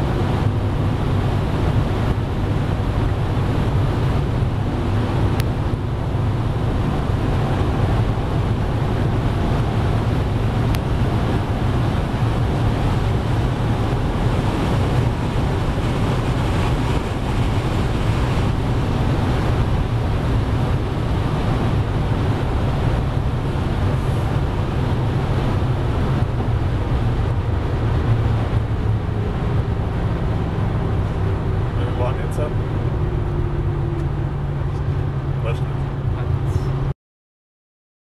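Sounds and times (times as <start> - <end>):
low engine drone: 0.0 - 36.9
wind and road noise: 0.0 - 36.9.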